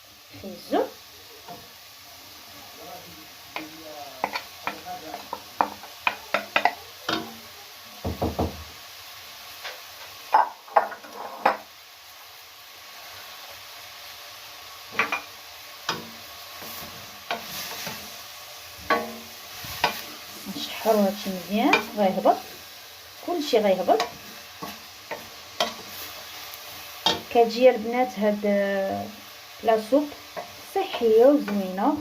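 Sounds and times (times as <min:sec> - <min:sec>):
vegetables sizzling in butter: 0:00.0 - 0:32.0.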